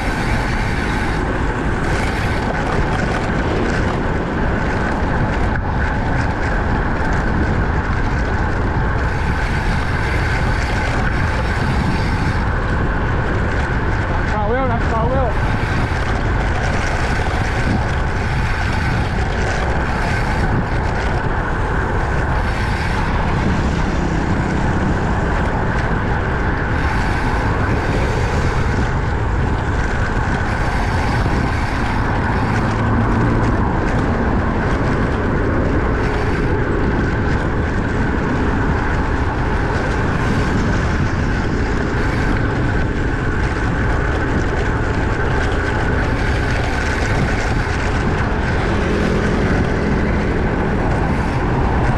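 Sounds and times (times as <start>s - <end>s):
bike tyre and road noise: 0.0s - 51.9s
wind rushing on microphone: 0.0s - 51.9s.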